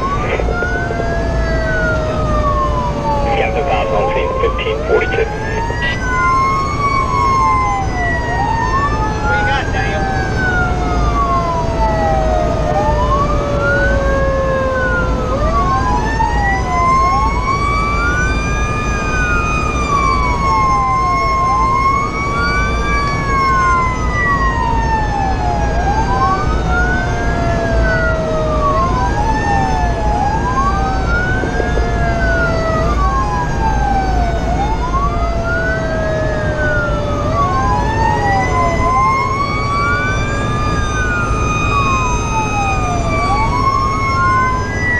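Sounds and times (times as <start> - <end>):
fast wailing siren: 0.0 - 44.9
slow wailing siren: 0.0 - 44.9
truck engine and road noise: 0.0 - 44.9.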